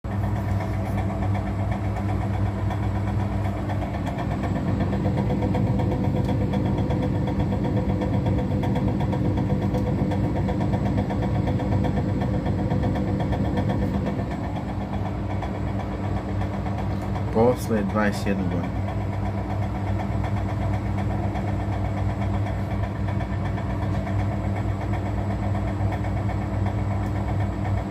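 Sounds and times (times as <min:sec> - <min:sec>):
washing machine drum humming: 0:00.0 - 0:27.9
rattle and knocking in drum: 0:00.1 - 0:27.9.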